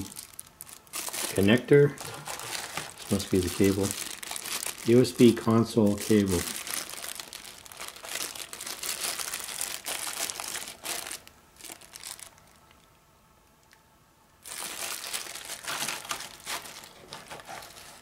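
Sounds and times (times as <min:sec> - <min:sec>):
plastic bags crinkling: 0:00.0 - 0:12.9, 0:14.4 - 0:18.0.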